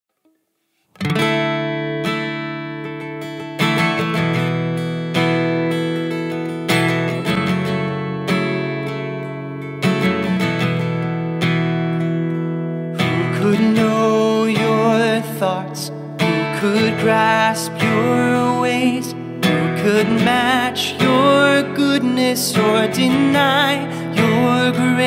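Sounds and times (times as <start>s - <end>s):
acoustic guitar chords: 0.1s - 25.0s.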